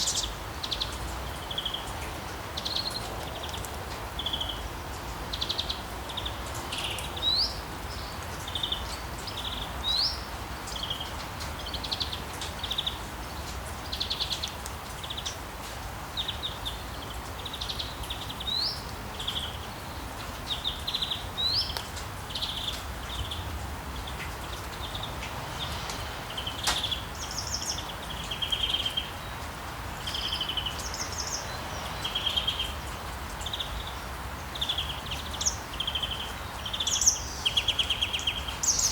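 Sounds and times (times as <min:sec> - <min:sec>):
small birds chirping: 0:00.0 - 0:15.4, 0:16.1 - 0:38.9
steady rain: 0:00.0 - 0:38.9.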